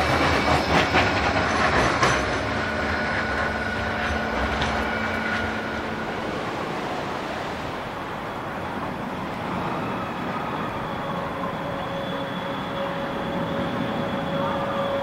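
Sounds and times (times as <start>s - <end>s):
tram rolling rumble: 0.0s - 15.0s.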